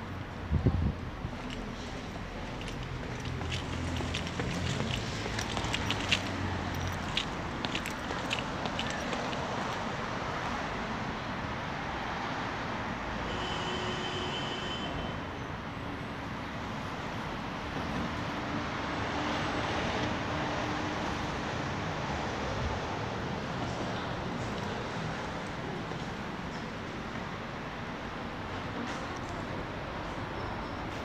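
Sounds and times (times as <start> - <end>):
city traffic noise: 0.0 - 31.0.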